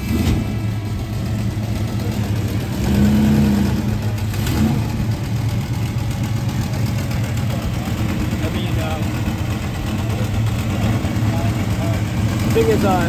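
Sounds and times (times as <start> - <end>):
car engine rumbling and revving: 0.0 - 13.0.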